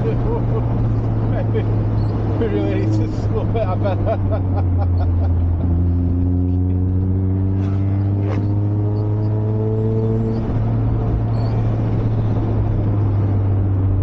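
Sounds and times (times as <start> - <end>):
car engine accelerating: 0.0 - 14.0
low road drone: 0.0 - 14.0.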